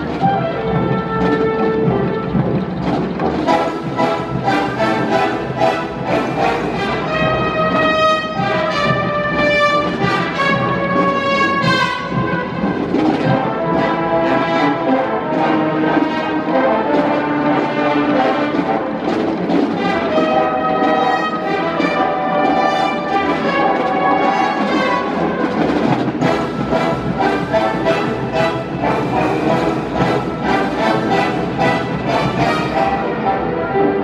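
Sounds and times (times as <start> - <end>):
timpani: 0.0 - 34.0
wind band playing chords: 0.0 - 34.0.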